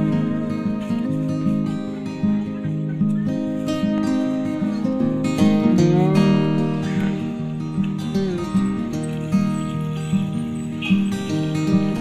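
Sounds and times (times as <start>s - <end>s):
acoustic guitar piece: 0.0s - 12.0s.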